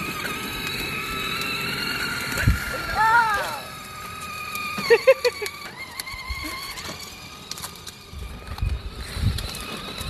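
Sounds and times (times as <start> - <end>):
plastic wheels rumbling on concrete: 0.0 - 10.0
toy truck electric motor whining: 0.0 - 10.0.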